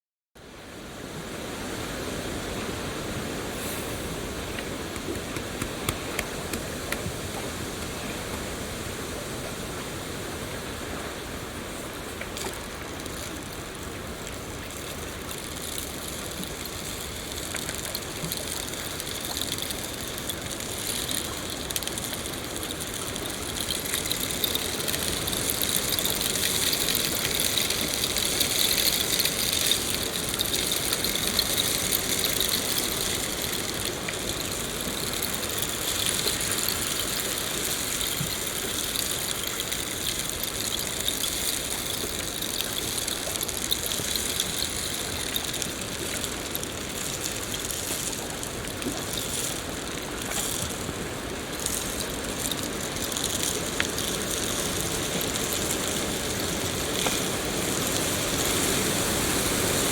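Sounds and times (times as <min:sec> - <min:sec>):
patter of raindrops: 0:01.2 - 0:59.9
steady rain falling: 0:02.6 - 0:59.9.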